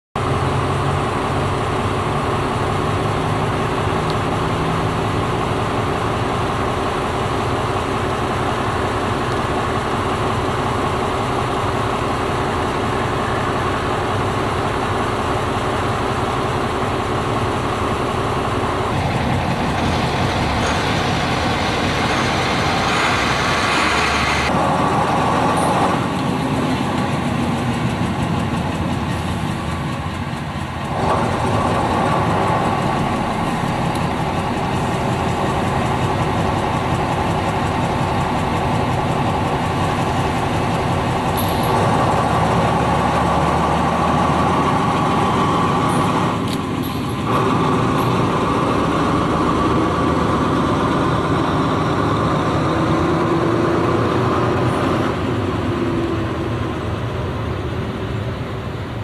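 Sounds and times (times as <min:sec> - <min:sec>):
diesel locomotive engine running: 0:00.2 - 0:59.0.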